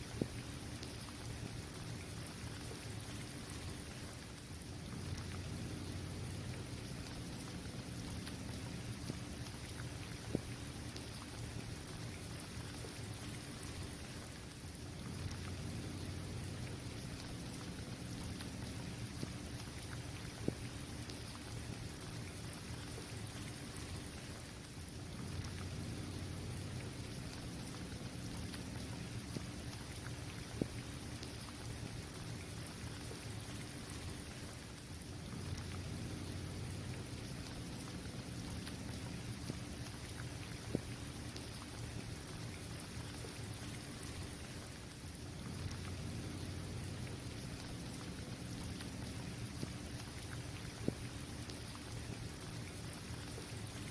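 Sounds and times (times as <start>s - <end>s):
rain on a court: 0.0s - 53.9s.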